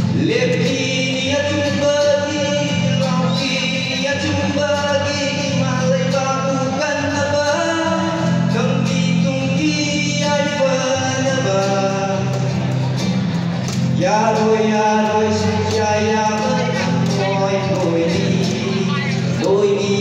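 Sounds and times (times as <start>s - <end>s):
man singing: 0.0s - 13.0s, 13.8s - 20.0s
acoustic guitar: 0.0s - 20.0s.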